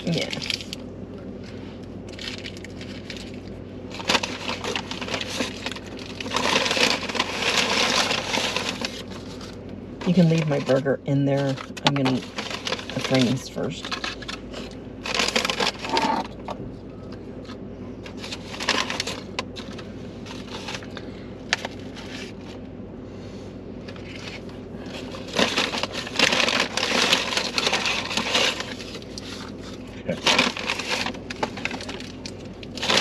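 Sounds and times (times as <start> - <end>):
paper bags and wrappers rustling: 0.0 - 0.8, 1.4 - 22.6, 23.8 - 33.0.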